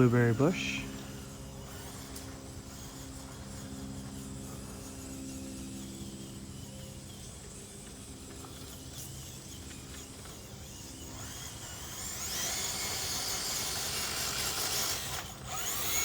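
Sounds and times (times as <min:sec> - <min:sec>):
toy car motor whining: 0:00.0 - 0:16.0.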